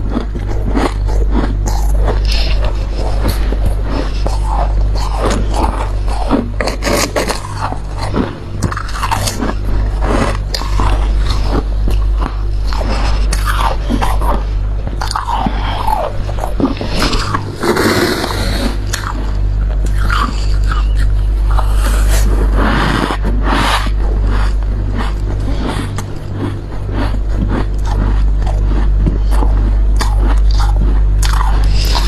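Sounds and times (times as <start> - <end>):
chewing crunchy frost: 0.0 - 32.0
steady low hum: 0.0 - 32.0.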